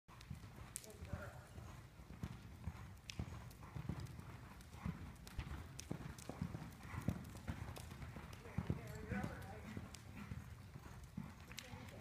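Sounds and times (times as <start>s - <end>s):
horse hoofbeats on dirt: 0.1s - 12.0s.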